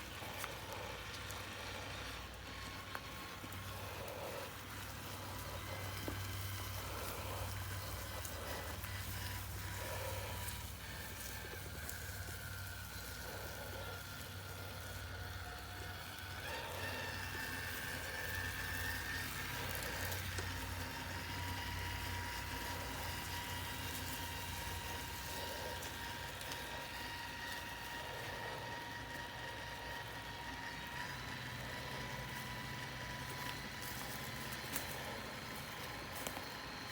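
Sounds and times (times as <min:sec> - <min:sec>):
toy car motor and gears whining: 0:00.0 - 0:36.9.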